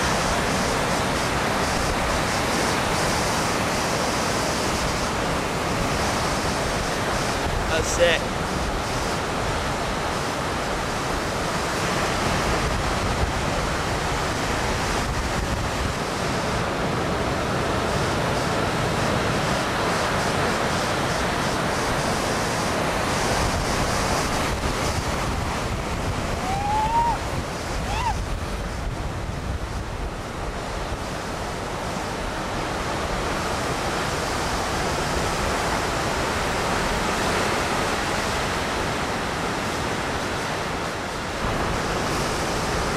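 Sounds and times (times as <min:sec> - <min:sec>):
ocean waves breaking: 0:00.0 - 0:42.9
wind on microphone: 0:00.0 - 0:42.9.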